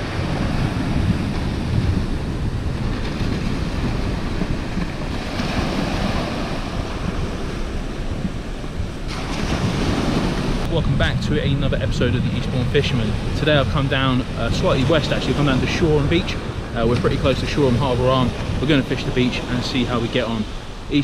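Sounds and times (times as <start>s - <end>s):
waves washing up shingle beach: 0.0s - 21.0s
wind buffeting microphone: 0.0s - 21.0s.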